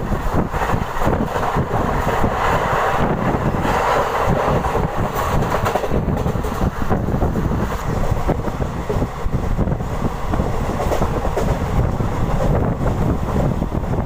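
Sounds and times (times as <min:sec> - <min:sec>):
train running noise: 0:00.0 - 0:14.0
wind buffeting microphone: 0:00.0 - 0:14.0.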